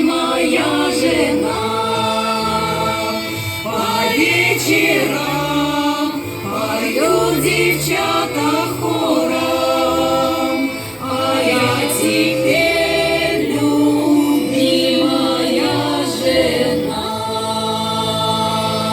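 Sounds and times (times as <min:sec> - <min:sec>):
steady bass accompaniment: 0:00.0 - 0:18.9
women's choir singing folk song: 0:00.0 - 0:18.9.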